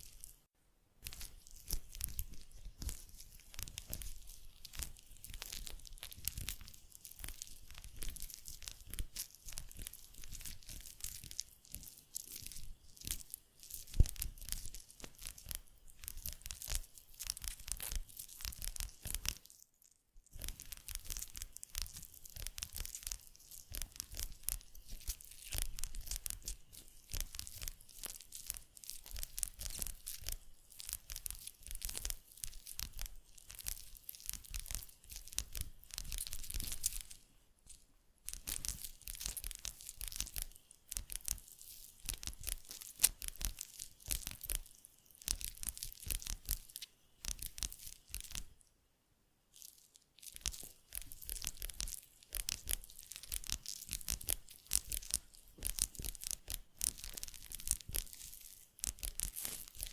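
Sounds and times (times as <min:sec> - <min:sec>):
crackling and scratching strokes: 0:00.0 - 0:48.7, 0:49.5 - 0:59.9.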